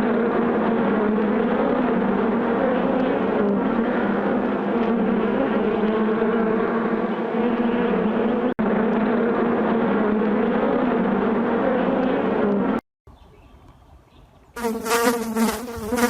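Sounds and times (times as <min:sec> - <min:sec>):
honey bees buzzing: 0:00.0 - 0:12.7, 0:14.6 - 0:16.0.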